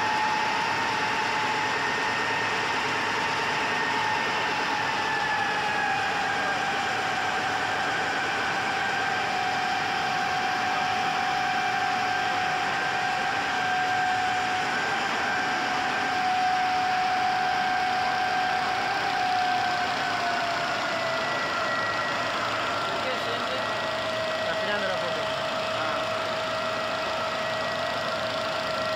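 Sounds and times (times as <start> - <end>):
machine whine: 0.0 - 28.9
printing press running: 0.0 - 28.9.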